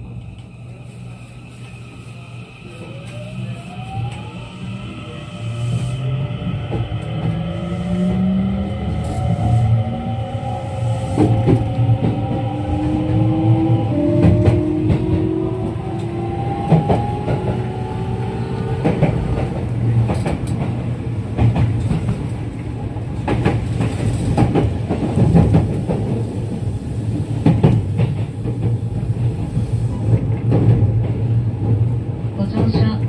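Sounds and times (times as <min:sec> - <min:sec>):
train running rumble: 0:00.0 - 0:33.0.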